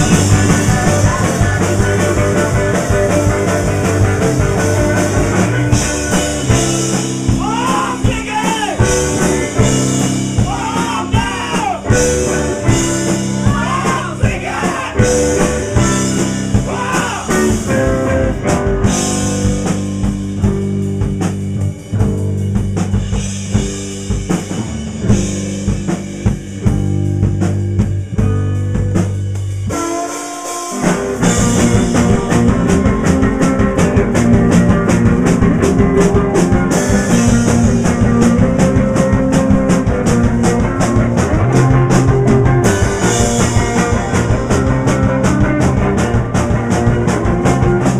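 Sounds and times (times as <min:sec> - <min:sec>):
fast steady drumming: 0:00.0 - 0:47.9
rock band playing live: 0:00.0 - 0:47.9.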